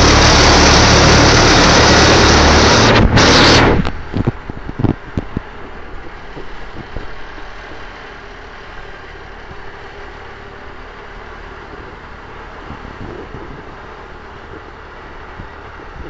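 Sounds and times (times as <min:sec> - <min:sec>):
boat engine running: 0:00.0 - 0:16.0
water washing along hull: 0:00.0 - 0:16.0.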